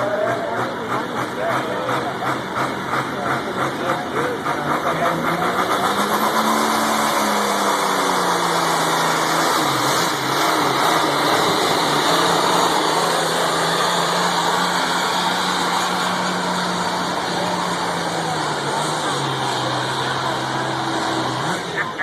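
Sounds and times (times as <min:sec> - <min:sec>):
diesel tractor engine running hard: 0:00.0 - 0:22.0.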